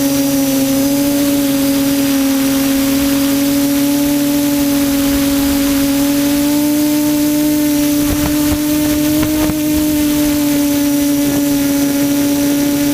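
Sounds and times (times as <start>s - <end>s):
quadcopter propellers droning: 0.0s - 12.9s.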